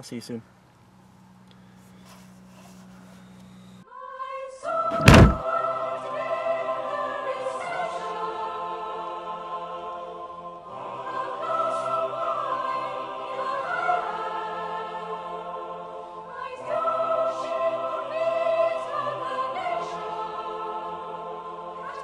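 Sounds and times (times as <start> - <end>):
choir holding long chords: 3.9 - 22.0.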